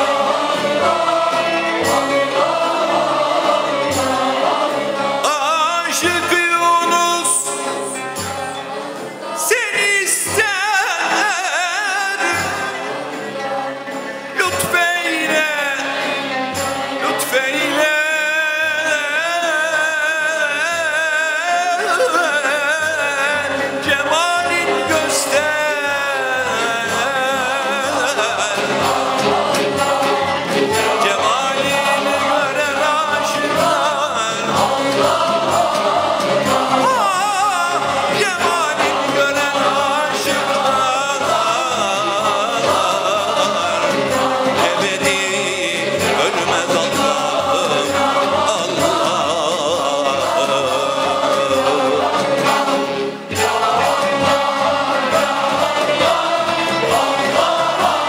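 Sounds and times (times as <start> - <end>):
mixed choir singing: 0.0 - 58.0
traditional instrument ensemble: 0.0 - 58.0.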